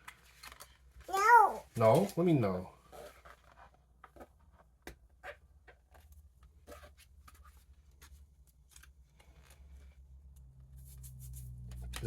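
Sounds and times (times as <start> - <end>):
cards and wrappers rustling: 0.0 - 4.8, 5.8 - 12.0.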